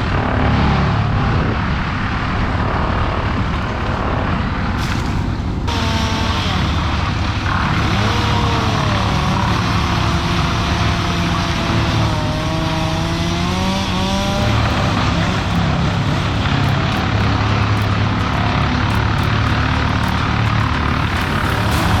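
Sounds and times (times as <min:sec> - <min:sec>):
machinery engine running: 0:00.0 - 0:22.0.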